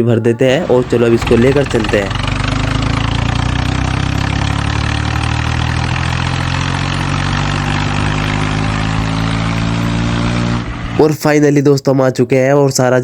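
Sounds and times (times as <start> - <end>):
truck engine running: 0.4 - 11.3.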